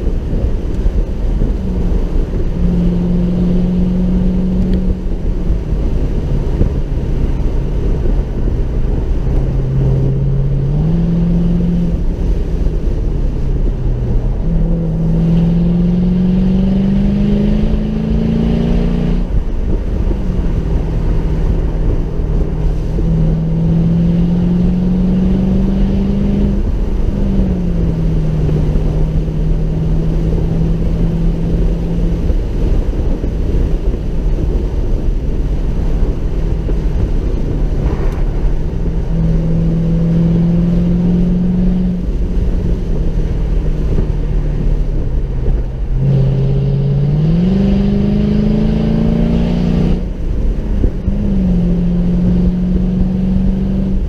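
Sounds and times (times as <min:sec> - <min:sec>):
car engine accelerating: 0:00.0 - 0:54.0
road and tyre rumble: 0:00.0 - 0:54.0.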